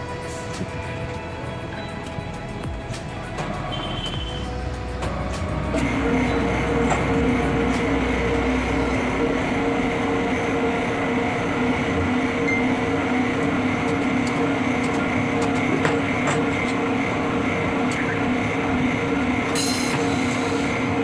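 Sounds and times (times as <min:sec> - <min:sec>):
tyre-changer machine droning: 0:00.0 - 0:21.0.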